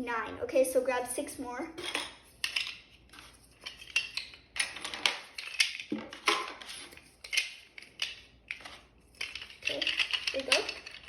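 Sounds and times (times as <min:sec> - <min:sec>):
plastic pieces clattering: 0:01.8 - 0:11.0.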